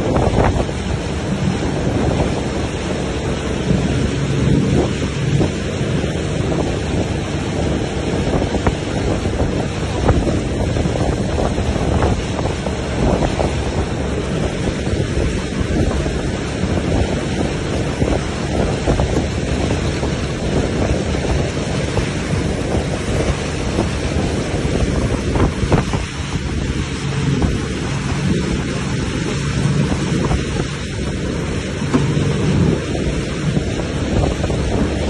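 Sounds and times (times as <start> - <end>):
boat motor running: 0.0 - 35.0
foaming water rushing: 0.0 - 35.0
wind buffeting microphone: 0.0 - 35.0.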